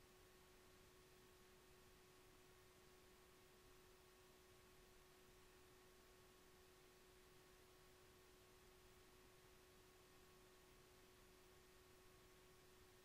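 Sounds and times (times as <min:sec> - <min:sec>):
faint steady hiss: 0:00.0 - 0:13.0
thin steady hum: 0:00.0 - 0:13.0.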